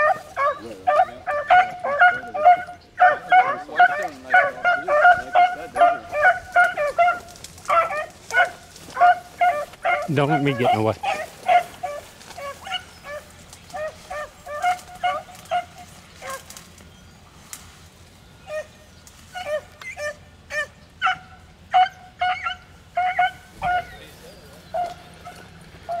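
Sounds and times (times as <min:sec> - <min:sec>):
beagles baying in high yelps: 0:00.0 - 0:26.0.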